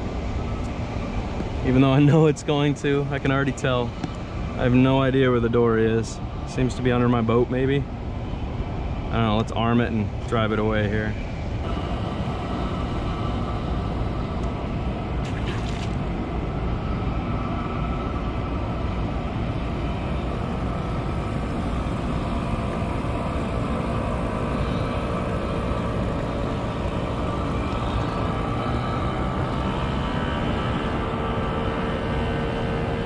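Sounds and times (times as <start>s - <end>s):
engine drone: 0.0s - 33.0s
noisy rush: 0.0s - 33.0s.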